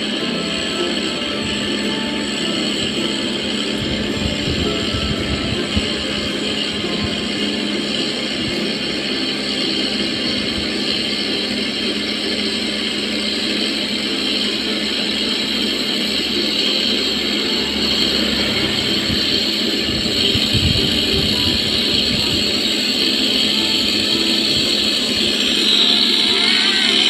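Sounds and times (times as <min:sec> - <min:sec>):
cotton candy machine whirring: 0:00.0 - 0:27.0.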